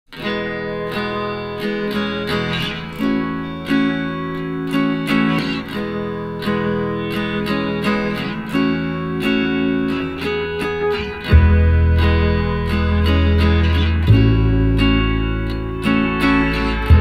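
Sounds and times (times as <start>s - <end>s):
acoustic guitar music: 0.1s - 17.0s.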